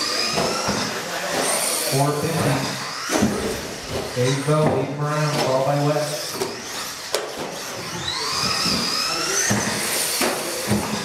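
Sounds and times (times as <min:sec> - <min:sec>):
radio-control truck motors whining: 0:00.0 - 0:11.0.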